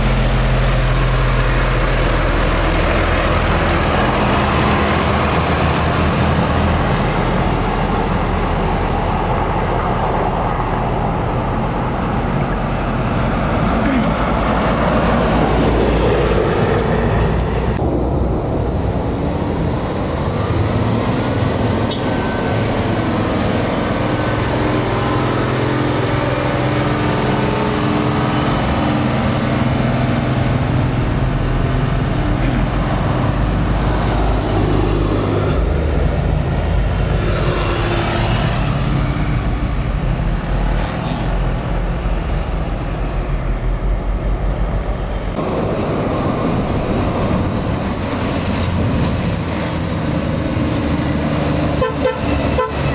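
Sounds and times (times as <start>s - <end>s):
diesel truck engines droning: 0.0s - 52.9s.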